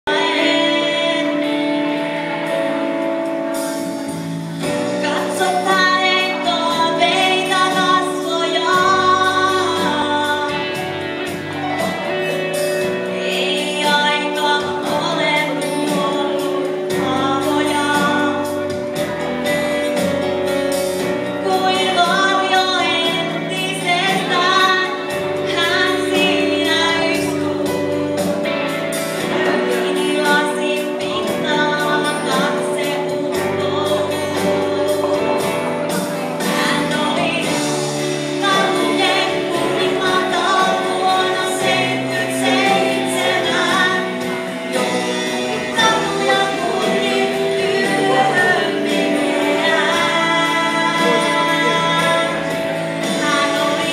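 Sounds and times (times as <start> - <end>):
karaoke backing track: 0.0 - 53.9
woman singing into microphone: 0.0 - 53.9.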